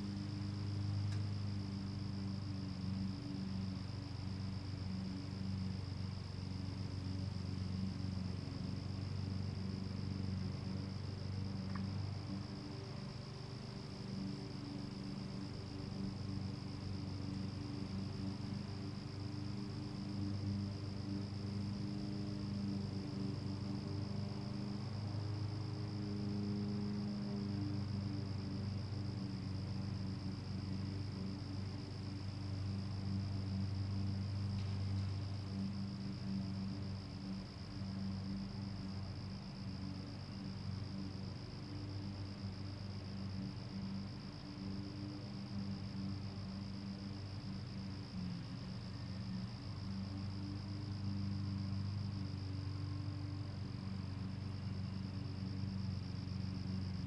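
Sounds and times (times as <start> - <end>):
high-pitched insect trill: 0.0 - 57.0.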